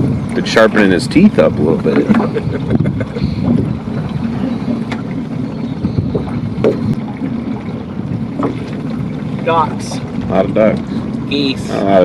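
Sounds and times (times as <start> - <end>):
faint ticks and knocks from boat: 0.0 - 12.0
wind buffeting microphone: 0.0 - 12.0.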